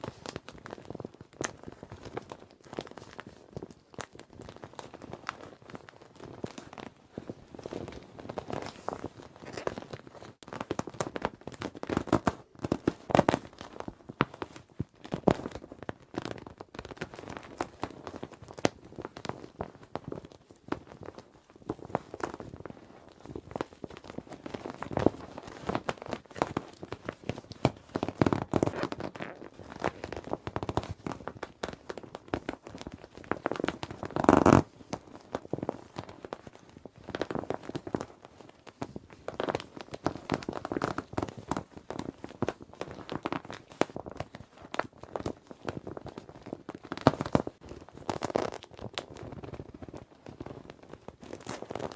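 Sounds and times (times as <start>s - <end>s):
plastic scrunch: 0.0s - 51.9s.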